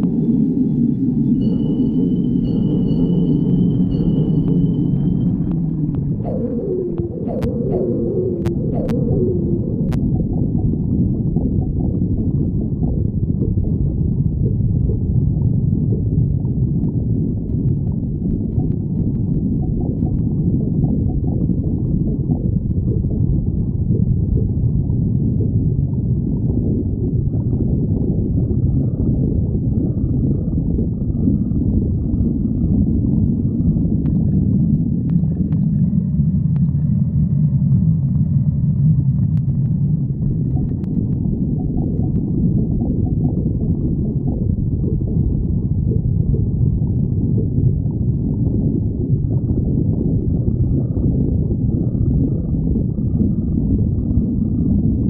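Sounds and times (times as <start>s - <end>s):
stomach growling: 3.9s - 55.0s.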